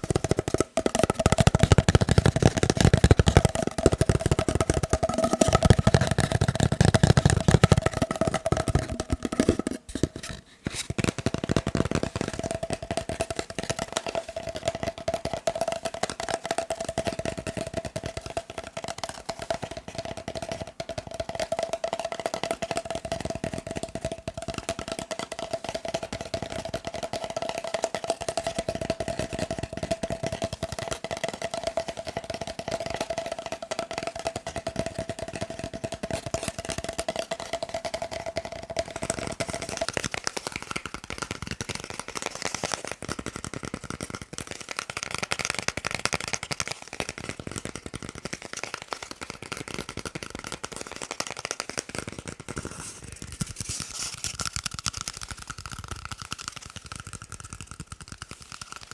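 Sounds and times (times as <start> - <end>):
fast tapping on paper roll: 0.0 - 58.9.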